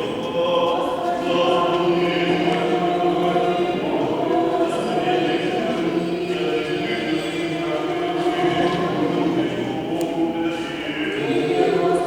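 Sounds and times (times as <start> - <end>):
choir chanting a hymn: 0.0 - 12.0.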